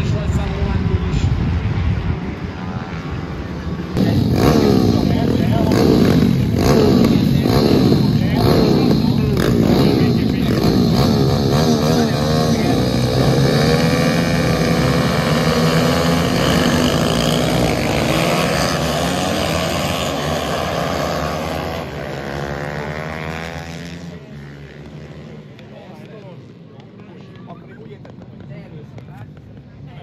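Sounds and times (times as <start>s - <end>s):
pit bike engines revving: 0.0s - 30.0s.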